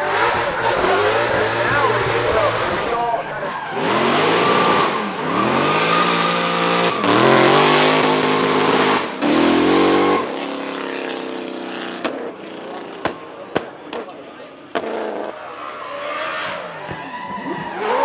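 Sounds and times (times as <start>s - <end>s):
car engine revving hard: 0.0s - 14.0s, 14.6s - 18.0s.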